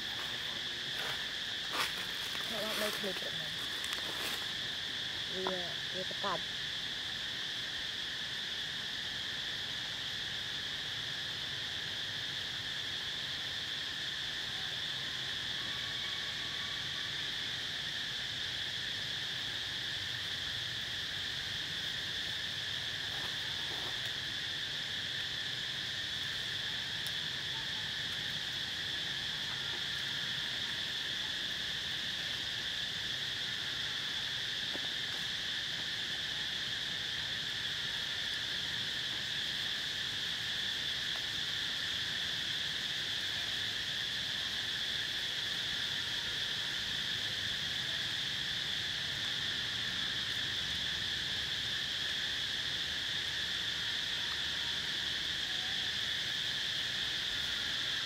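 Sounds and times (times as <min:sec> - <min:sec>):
shrill insect chorus: 0:00.0 - 0:58.0.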